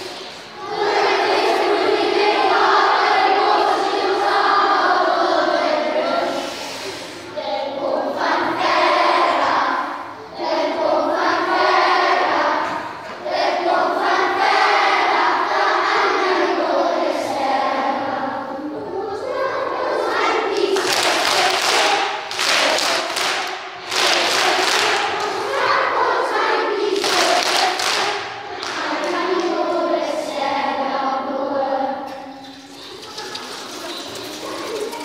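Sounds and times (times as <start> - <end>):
children singing together: 0.0 - 35.0.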